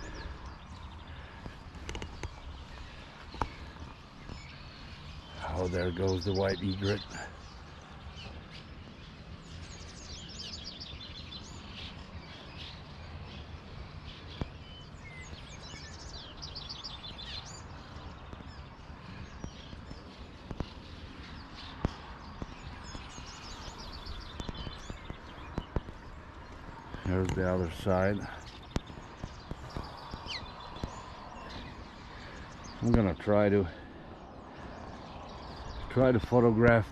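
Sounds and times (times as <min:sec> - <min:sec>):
swallows twittering: 0:00.0 - 0:36.9.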